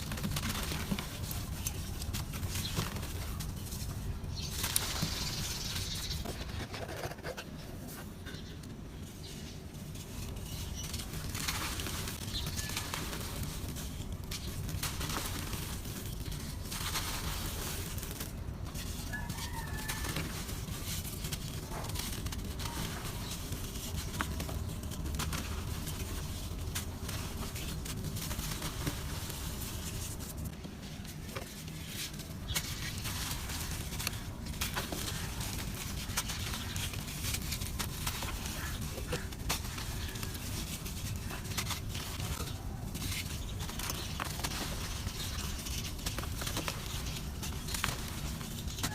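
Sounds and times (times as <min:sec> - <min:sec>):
dry dirt crumbling: 0:00.0 - 0:07.1, 0:09.4 - 0:48.9.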